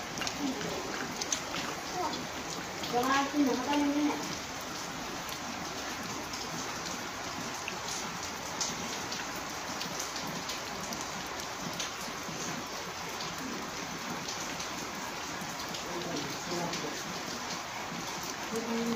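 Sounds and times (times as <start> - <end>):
raindrops ticking on surfaces: 0.0 - 18.9
steady rain hiss: 0.0 - 18.9.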